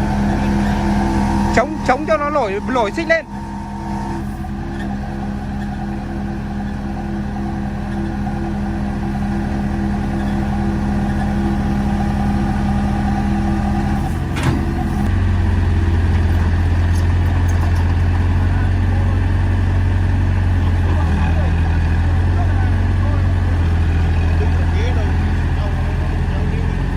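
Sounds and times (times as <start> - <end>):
excavator diesel engine under load: 0.0 - 26.9.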